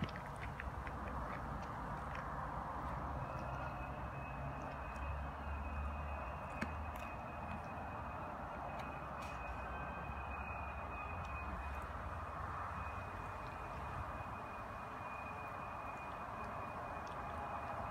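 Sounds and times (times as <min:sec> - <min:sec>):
faint high steady tone: 0:03.1 - 0:17.9.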